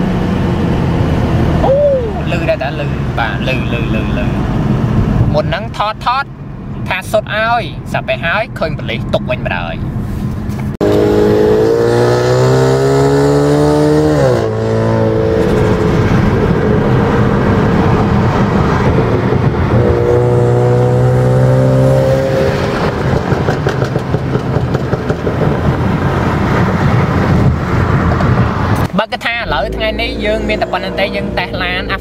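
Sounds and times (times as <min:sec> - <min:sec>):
car engine accelerating: 0:00.0 - 0:05.5, 0:09.8 - 0:32.0
road noise: 0:00.0 - 0:32.0.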